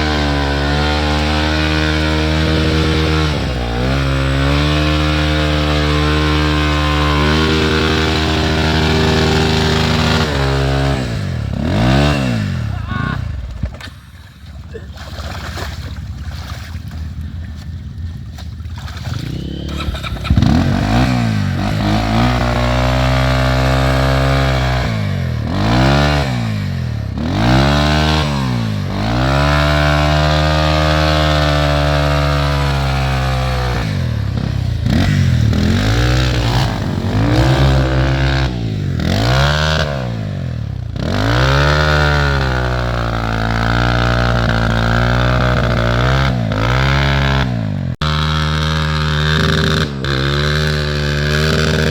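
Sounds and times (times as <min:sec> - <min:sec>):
dirt bike engine revving: 0:00.0 - 0:14.0, 0:18.8 - 0:51.9.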